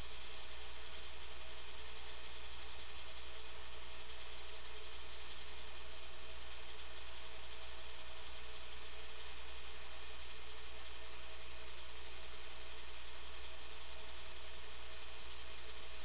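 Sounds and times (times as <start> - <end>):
steady machine hum and hiss: 0.0 - 16.0.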